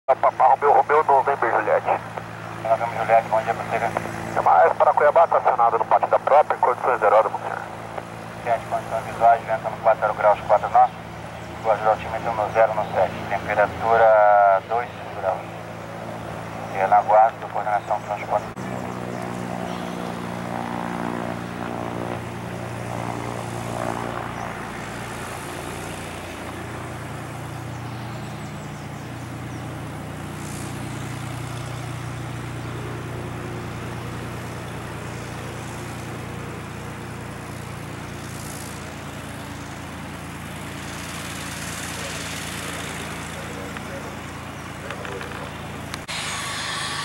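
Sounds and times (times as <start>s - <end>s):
propeller plane engine humming: 0.1s - 47.0s.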